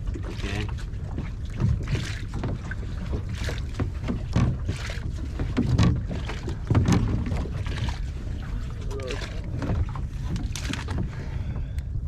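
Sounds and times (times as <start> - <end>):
water splashing against kayaks: 0.0 - 12.0
wind rumble on microphone: 0.0 - 12.0.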